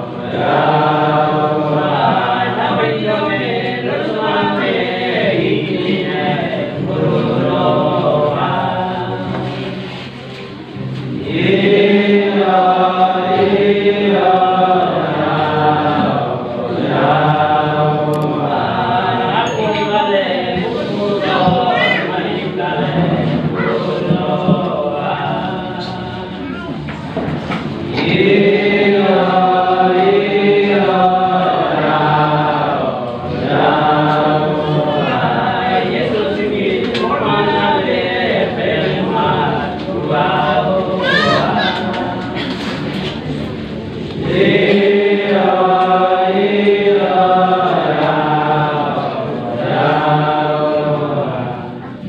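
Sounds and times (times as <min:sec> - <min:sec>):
men singing unaccompanied: 0:00.0 - 0:10.0, 0:11.1 - 0:26.5, 0:27.9 - 0:43.0, 0:44.2 - 0:52.0.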